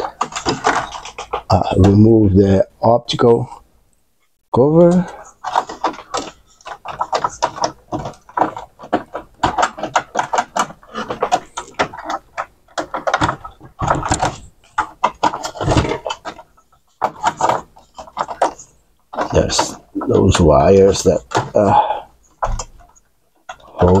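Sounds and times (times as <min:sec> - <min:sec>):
plastic parts clicking and rattling: 0:00.0 - 0:02.2, 0:04.8 - 0:24.0.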